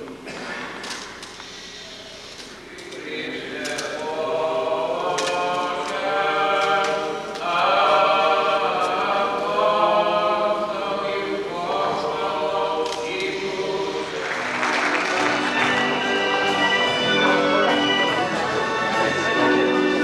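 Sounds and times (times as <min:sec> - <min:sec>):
choir singing a cappella: 0:02.8 - 0:20.0.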